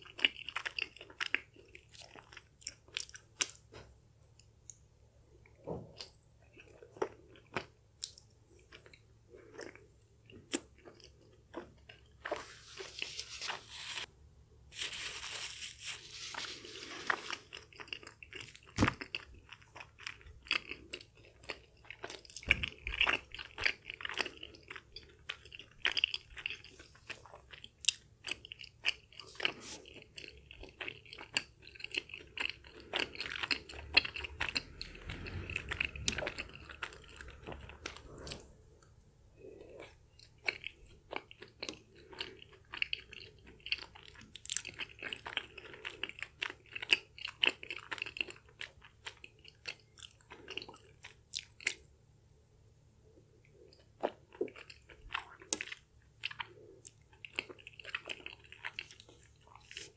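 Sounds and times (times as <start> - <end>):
chewing sticky food: 0.0 - 14.1, 14.8 - 59.9.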